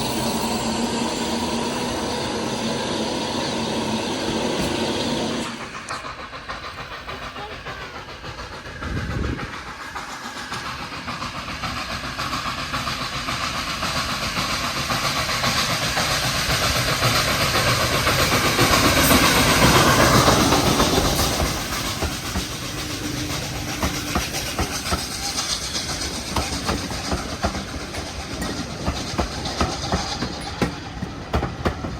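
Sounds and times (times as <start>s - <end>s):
train passing: 0.0s - 31.9s.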